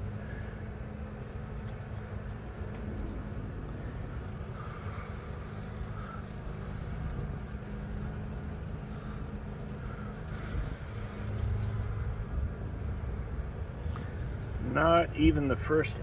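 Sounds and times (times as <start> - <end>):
honeybees humming: 0.0 - 16.0.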